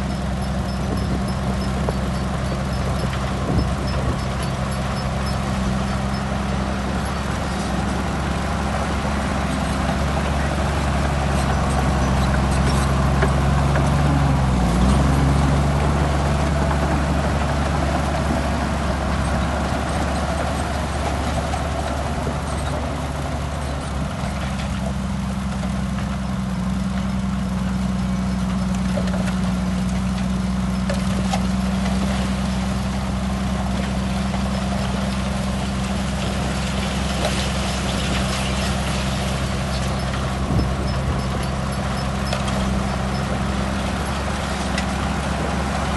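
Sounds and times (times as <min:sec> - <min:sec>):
heavy machinery diesel engine: 0:00.0 - 0:45.9.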